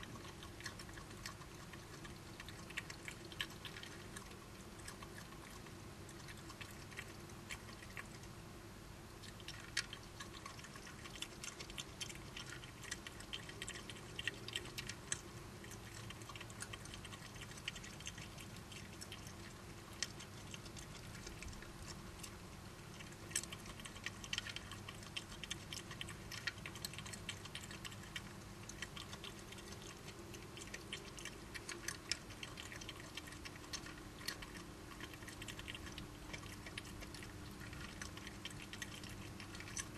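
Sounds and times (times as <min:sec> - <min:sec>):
badgers chewing food: 0:00.0 - 0:08.4, 0:09.1 - 0:39.9
steady low hum: 0:00.0 - 0:39.9.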